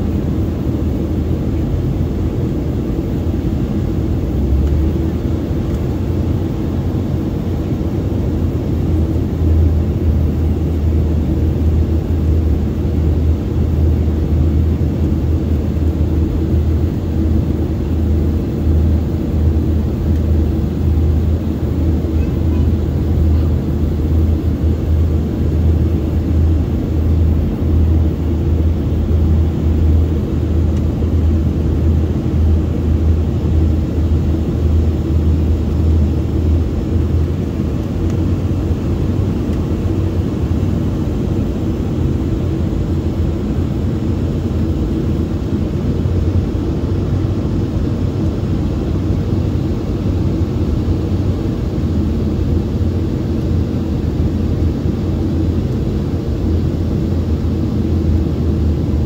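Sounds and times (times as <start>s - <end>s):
airflow over fuselage: 0.0s - 59.0s
jet engine drone: 0.0s - 59.0s.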